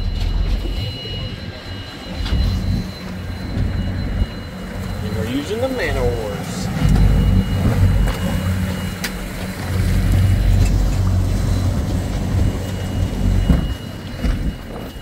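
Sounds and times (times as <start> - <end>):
outboard motors rumbling: 0.0 - 15.0.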